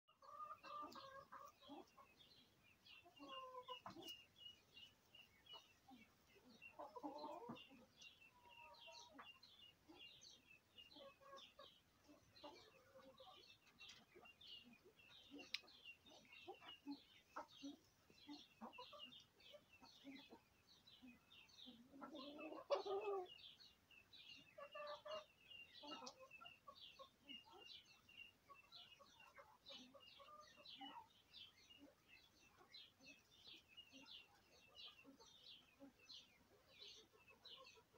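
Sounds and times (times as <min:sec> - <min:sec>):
pheasant clucking calls: 0:00.1 - 0:37.9.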